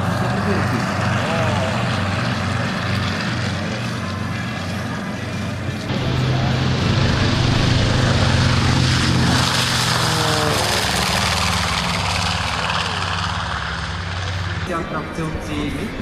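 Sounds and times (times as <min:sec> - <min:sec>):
twin radial aircraft engines roaring: 0:00.0 - 0:16.0.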